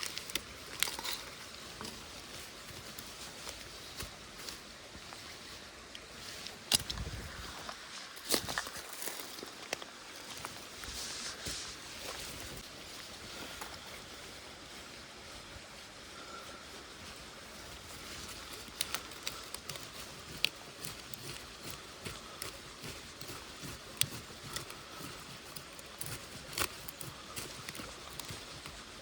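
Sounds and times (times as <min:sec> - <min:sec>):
faint outdoor hiss: 0:00.0 - 0:29.0.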